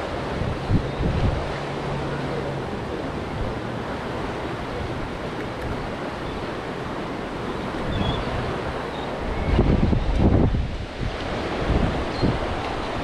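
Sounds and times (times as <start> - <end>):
rough water and surf breaking: 0.0 - 13.0
wind noise on microphone: 0.0 - 13.0.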